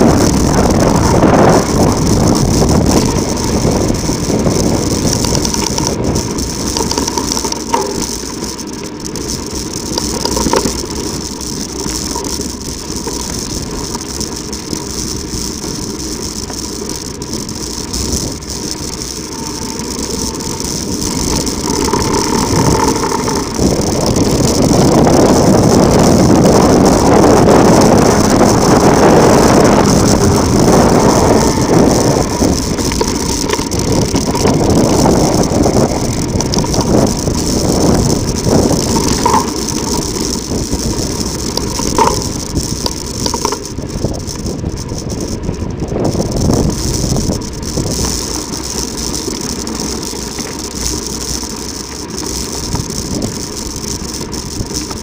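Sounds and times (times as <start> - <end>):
bike rattling: 0.0 - 55.0
bike tyres on rough ground: 0.0 - 55.0
wind on microphone: 0.0 - 55.0.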